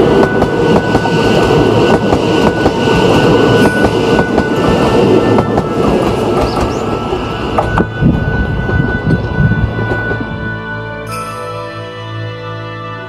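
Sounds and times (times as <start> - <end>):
train rail rumble: 0.0 - 11.4.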